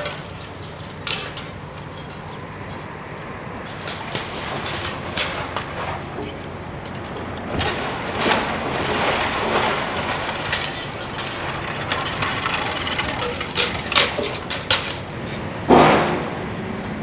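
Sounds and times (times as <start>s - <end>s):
sharp wood cracks: 0.0s - 2.9s, 3.6s - 16.2s
wood crunching and splintering: 0.0s - 16.3s
excavator engine running: 0.0s - 17.0s.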